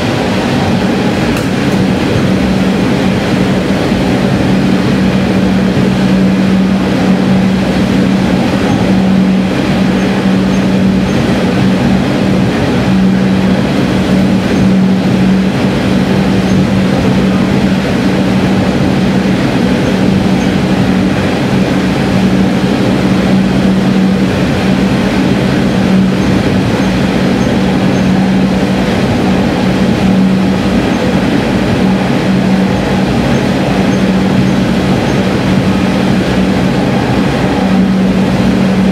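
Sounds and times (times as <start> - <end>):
diesel railcar engine drone: 0.0 - 38.9
wheels rumbling on rail: 0.0 - 38.9.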